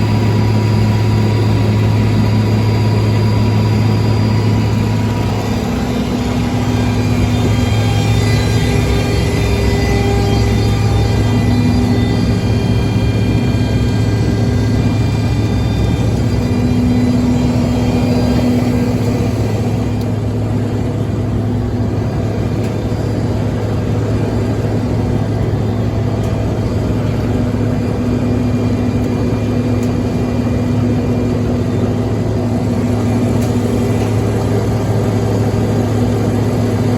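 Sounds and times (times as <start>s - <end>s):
grinder machine noise: 0.0s - 36.5s
tractor engine drone: 0.0s - 36.9s.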